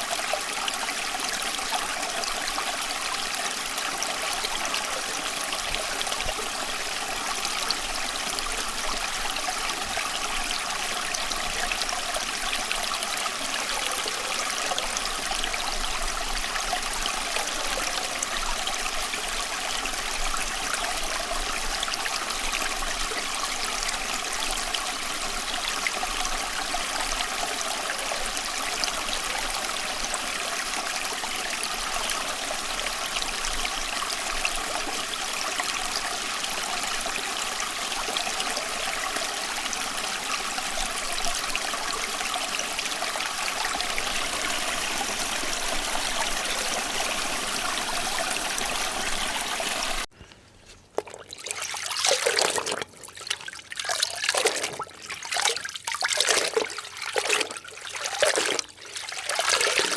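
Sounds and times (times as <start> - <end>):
stream babbling: 0.0 - 50.1.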